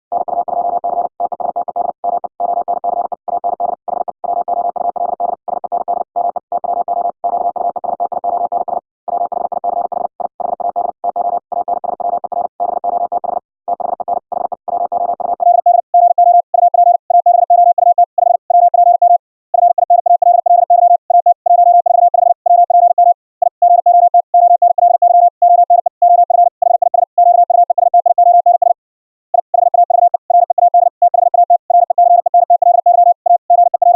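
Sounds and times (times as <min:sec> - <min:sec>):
morse code beeps: 0:00.1 - 0:33.9.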